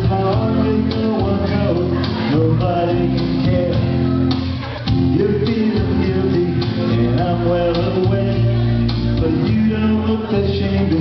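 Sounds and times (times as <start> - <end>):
guitar backing track: 0.0 - 11.0
person singing: 0.0 - 11.0.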